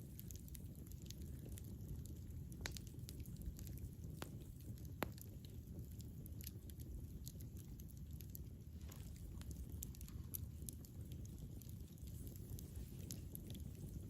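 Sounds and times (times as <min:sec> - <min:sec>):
burning wood crackling and popping: 0:00.0 - 0:14.0
campfire flames rumbling: 0:00.0 - 0:14.0.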